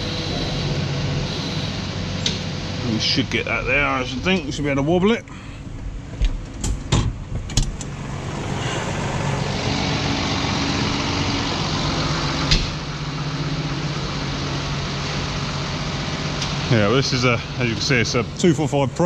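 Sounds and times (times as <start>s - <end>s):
tractor diesel engine idling: 0.0s - 6.5s, 7.7s - 19.0s.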